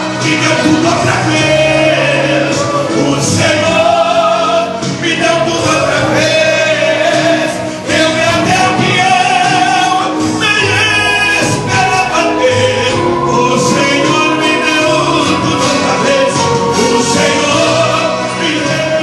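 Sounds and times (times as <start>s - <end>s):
band accompaniment: 0.0s - 19.0s
man singing: 0.0s - 19.0s.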